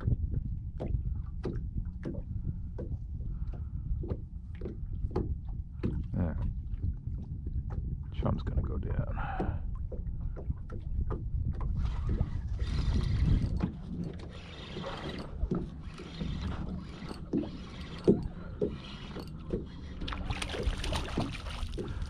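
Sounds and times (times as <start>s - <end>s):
water slapping boat hull: 0.0s - 22.0s
wind rumbling on microphone: 0.0s - 22.0s.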